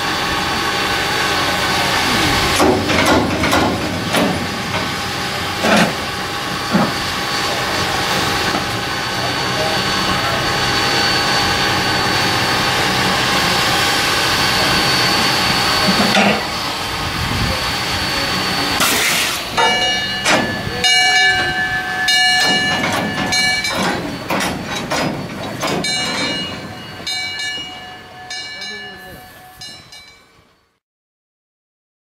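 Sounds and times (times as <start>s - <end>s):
steam hissing: 0.0s - 30.3s
high-pitched squeal: 0.0s - 30.6s
steam locomotive chuffing: 0.0s - 30.8s.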